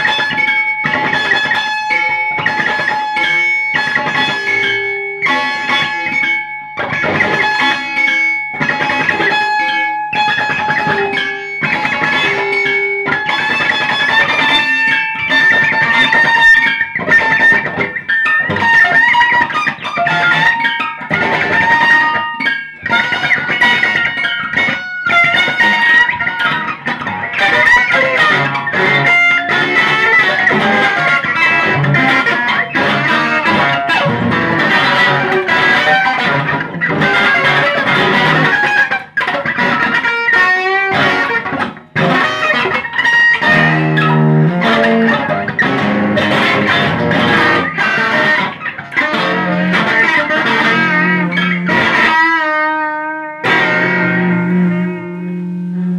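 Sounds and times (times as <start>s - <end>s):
electric guitar improvisation: 0.0s - 55.9s.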